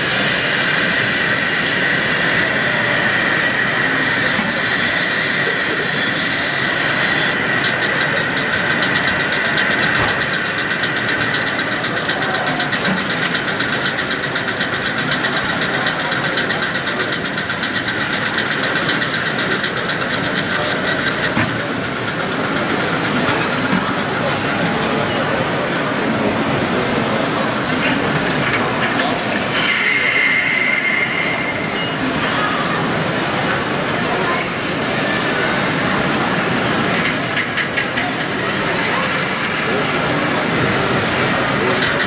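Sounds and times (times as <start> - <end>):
model tram running on track: 0.0 - 42.0
steady background din: 0.0 - 42.0.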